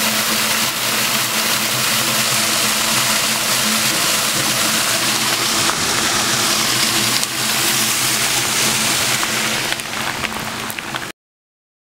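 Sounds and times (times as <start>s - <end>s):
low steady hum: 0.0s - 11.0s
heavy rain on pavement: 0.0s - 11.1s
water running into drain: 0.0s - 11.1s.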